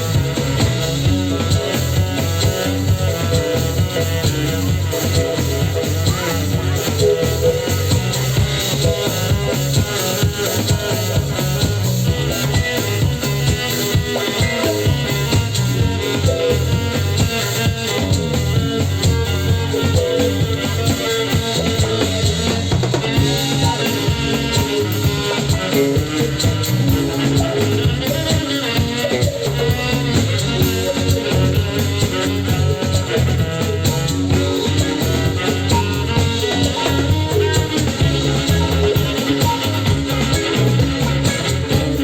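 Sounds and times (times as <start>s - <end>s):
bass: 0.0s - 42.0s
drum kit: 0.0s - 42.0s
guitar: 0.0s - 42.0s
keyboards: 0.0s - 42.0s
percussion: 0.0s - 42.0s.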